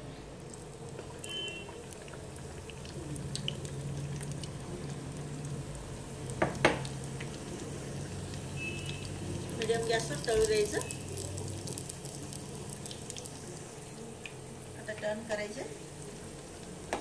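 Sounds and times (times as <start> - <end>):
battered leaves deep-frying in oil: 0.0 - 17.0.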